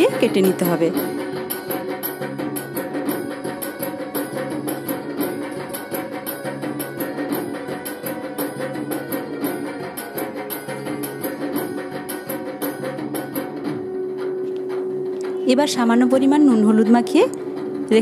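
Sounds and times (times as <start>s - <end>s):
background music with percussion: 0.0s - 18.0s.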